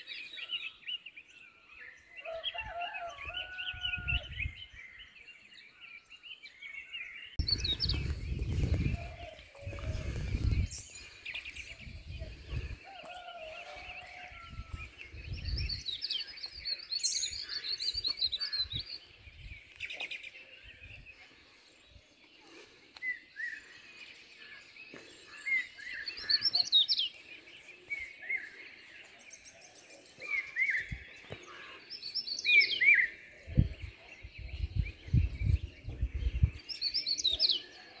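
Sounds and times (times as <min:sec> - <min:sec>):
birds calling and chirping: 0:00.0 - 0:38.0.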